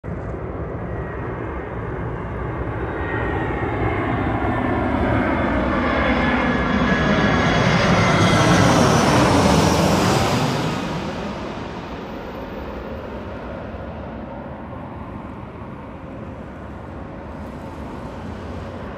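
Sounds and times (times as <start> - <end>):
descending jet whine: 0.1 - 18.9
jet engines roaring overhead: 0.1 - 18.9.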